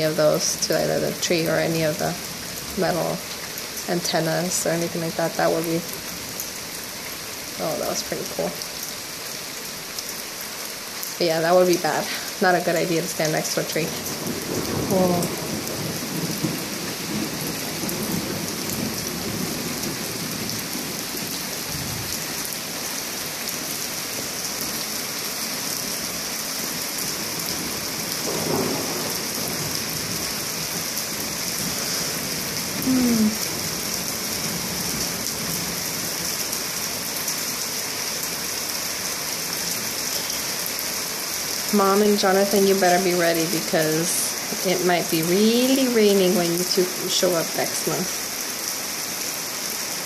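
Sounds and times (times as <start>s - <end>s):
heavy rain downpour: 0.0s - 50.0s.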